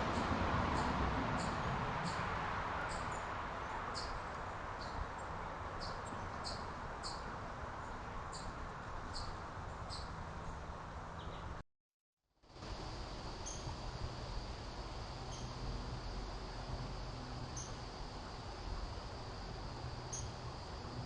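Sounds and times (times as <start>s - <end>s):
outdoor background hiss: 0.0s - 11.6s, 12.4s - 21.0s.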